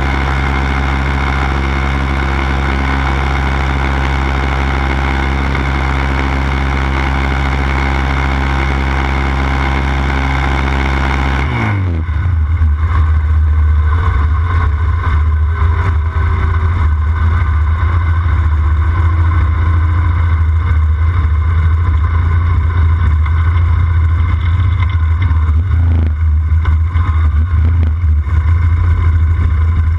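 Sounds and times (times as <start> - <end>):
quad bike engine: 0.0 - 29.9.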